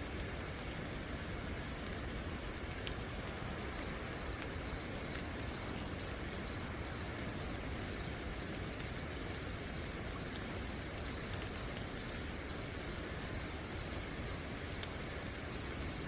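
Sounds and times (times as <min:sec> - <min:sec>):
crickets trilling: 0:00.0 - 0:16.0
steady rain: 0:00.0 - 0:16.0.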